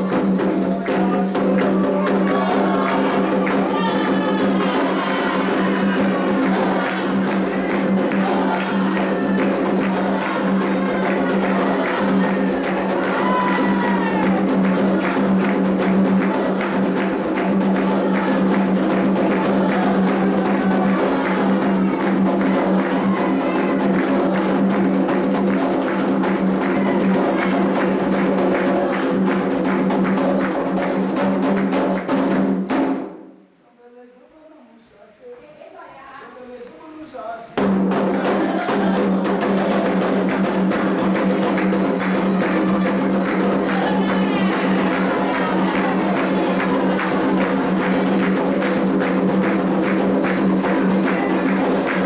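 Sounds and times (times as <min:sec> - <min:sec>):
voices singing: 0:00.0 - 0:29.8, 0:37.6 - 0:52.0
hand drums playing: 0:00.0 - 0:33.2, 0:37.6 - 0:52.0.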